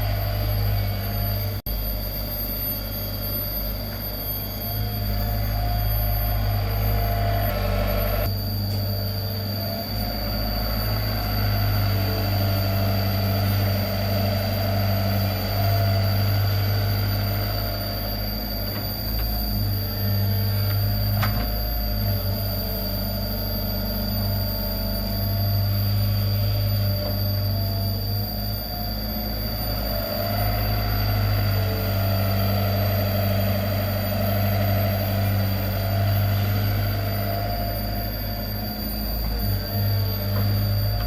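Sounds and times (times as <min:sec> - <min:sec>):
excavator diesel engine humming: 0:00.0 - 0:02.4, 0:03.1 - 0:41.0.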